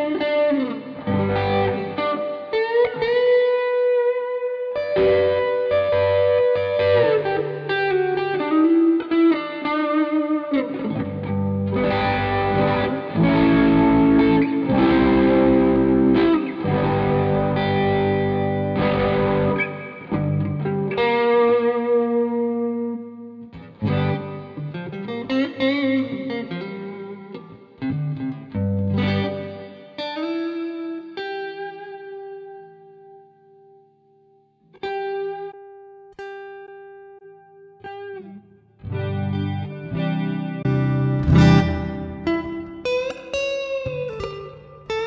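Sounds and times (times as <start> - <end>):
electric guitar playing: 0.0 - 45.0.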